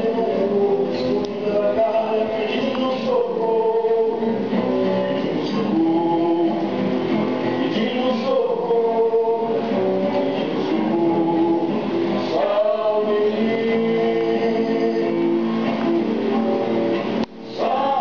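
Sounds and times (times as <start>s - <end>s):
man and group singing with guitar: 0.0s - 18.0s.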